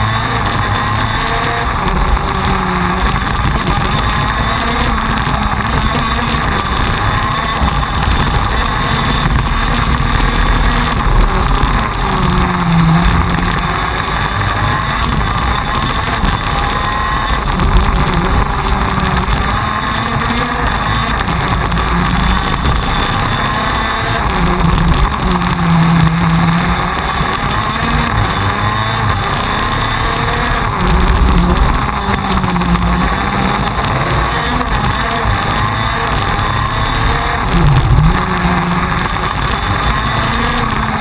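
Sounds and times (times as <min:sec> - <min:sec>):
kart engine racing: 0:00.0 - 0:41.0.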